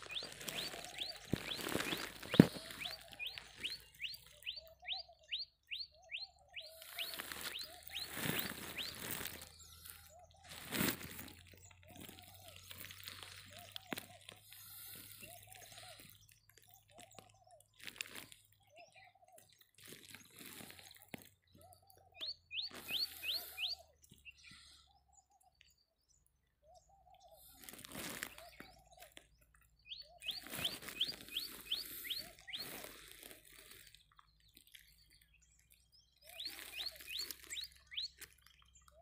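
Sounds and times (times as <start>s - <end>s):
lower arched bird calls: 0.0s - 39.0s.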